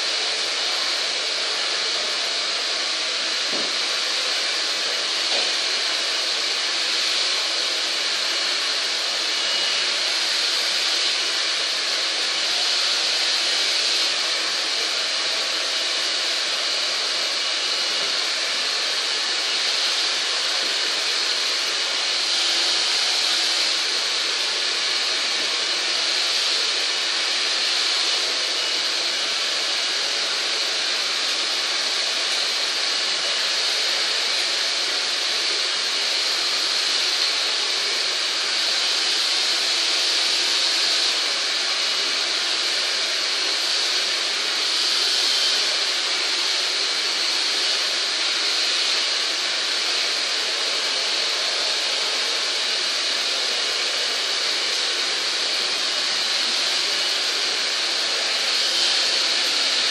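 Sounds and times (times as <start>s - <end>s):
blower rushing air: 0.0s - 59.9s.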